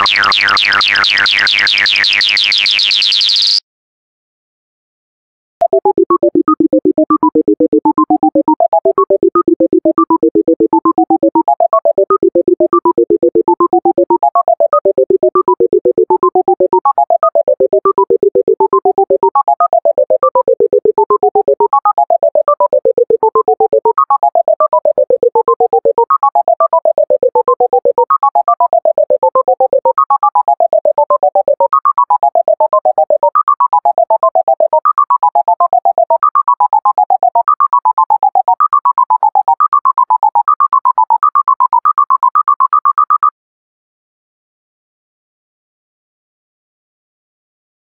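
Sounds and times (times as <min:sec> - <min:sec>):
rapid synthesized beeps: 0:00.0 - 0:03.6, 0:05.6 - 0:43.3.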